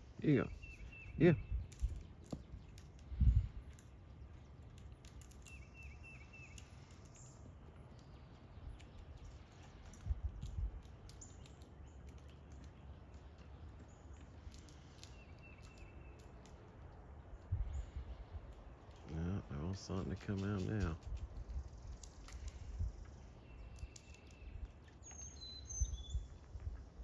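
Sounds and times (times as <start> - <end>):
bird chirping: 0.0 - 27.0
faint scattered clicks: 0.2 - 27.0.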